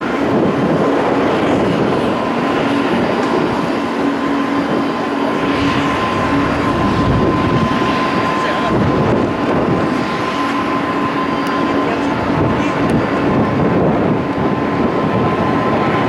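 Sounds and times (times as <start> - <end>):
jet engines rushing and whining: 0.0 - 16.0.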